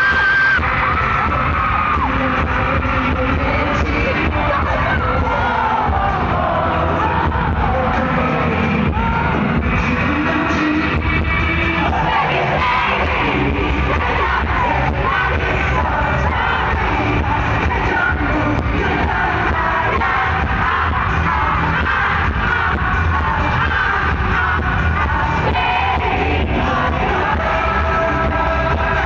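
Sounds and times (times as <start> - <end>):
live pop music: 0.0 - 29.0
man singing: 0.6 - 29.0.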